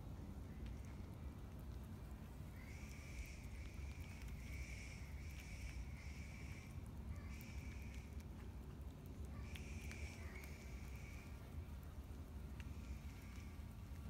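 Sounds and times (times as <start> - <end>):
possum chewing toasted bread: 0.2 - 14.0.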